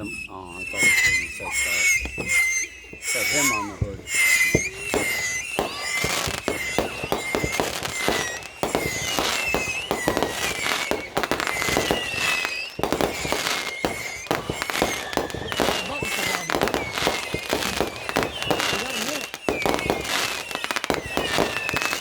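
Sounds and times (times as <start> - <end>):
fireworks bangs and crackling: 0.0 - 22.0
fireworks whistling: 0.0 - 22.0.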